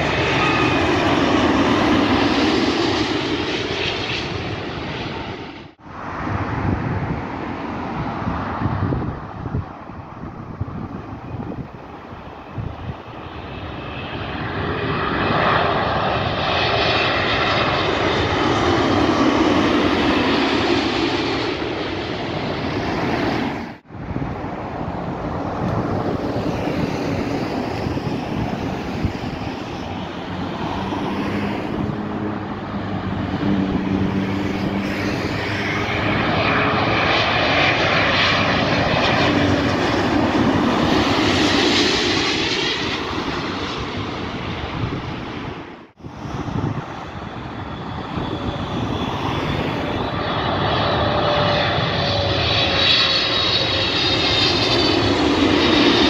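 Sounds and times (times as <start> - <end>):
airliner passing overhead: 0.0 - 56.0
jet engine rush and whine: 0.0 - 56.0.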